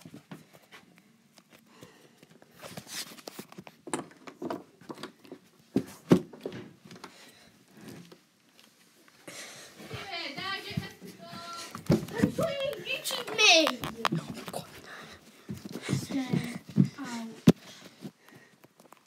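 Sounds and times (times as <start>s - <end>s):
tablet rustling against clothing: 0.0s - 19.0s.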